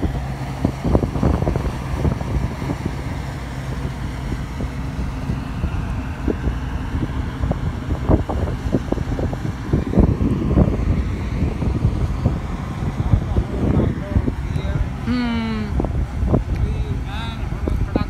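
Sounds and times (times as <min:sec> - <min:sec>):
combine harvester engine humming: 0:00.0 - 0:18.0
wind buffeting microphone: 0:00.0 - 0:18.0.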